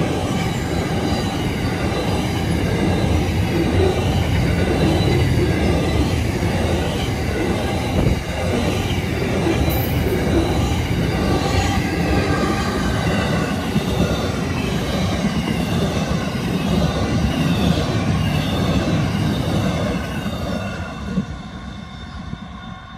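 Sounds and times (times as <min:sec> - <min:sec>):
high wheel squealing: 0:00.0 - 0:22.9
train wheels rumbling on rails: 0:00.0 - 0:22.9.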